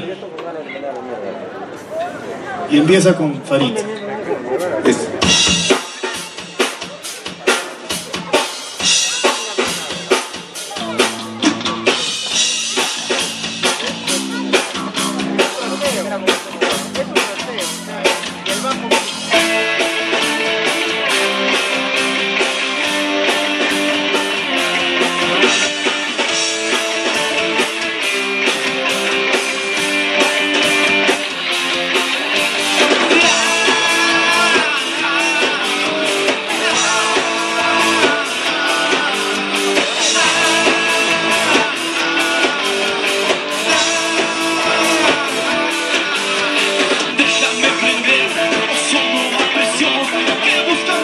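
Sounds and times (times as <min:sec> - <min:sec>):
electric guitars: 0:03.6 - 0:51.0
bass guitar: 0:04.6 - 0:51.0
drum kit: 0:04.6 - 0:51.0.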